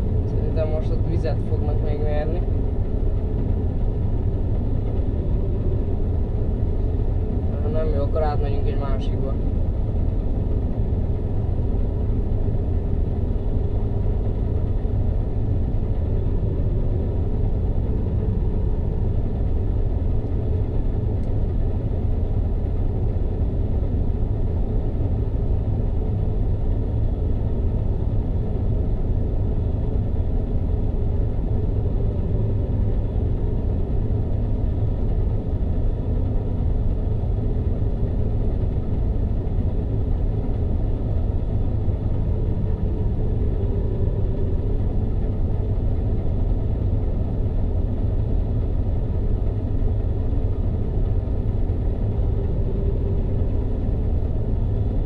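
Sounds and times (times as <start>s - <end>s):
combine harvester engine rumble: 0.0s - 55.0s.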